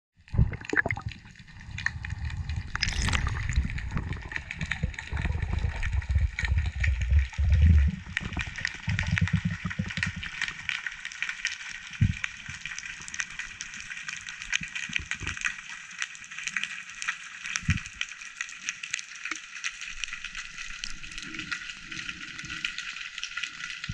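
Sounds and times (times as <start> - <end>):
fine underwater crackle: 0.2 - 23.9
underwater rushing water: 0.2 - 23.9.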